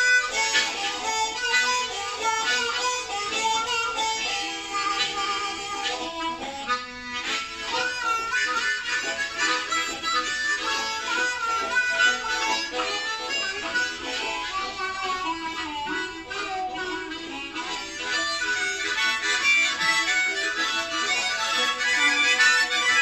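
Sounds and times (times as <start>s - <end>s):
harmonicas playing blues: 0.0s - 23.0s.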